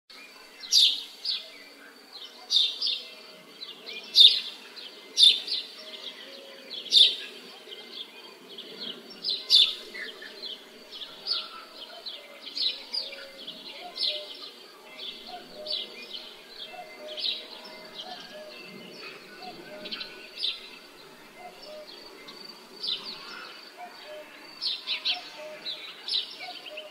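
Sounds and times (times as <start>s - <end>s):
outdoor background murmur: 0.1s - 26.9s
birds chirping: 0.2s - 26.9s.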